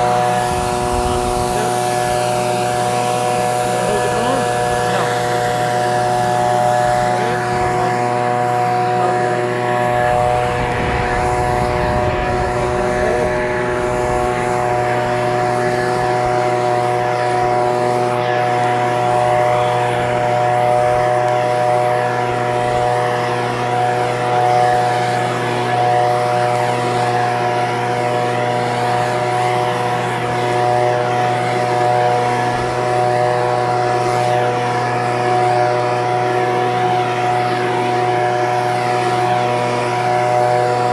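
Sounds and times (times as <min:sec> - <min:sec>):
leaf blower running: 0:00.0 - 0:40.9.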